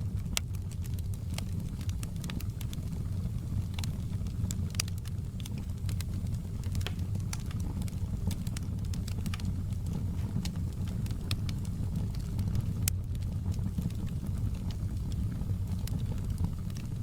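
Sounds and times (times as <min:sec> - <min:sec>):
low rumble of flames: 0:00.0 - 0:17.0
sharp popping of fire: 0:00.0 - 0:17.0
wood fire crackling: 0:00.0 - 0:17.0.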